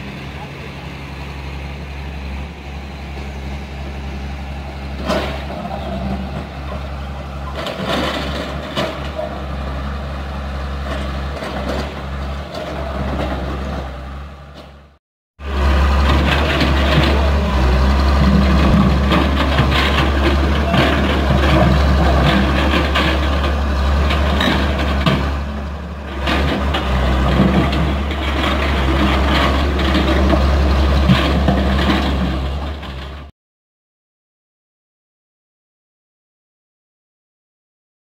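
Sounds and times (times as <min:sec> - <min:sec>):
vehicle engine running: 0:00.0 - 0:33.3.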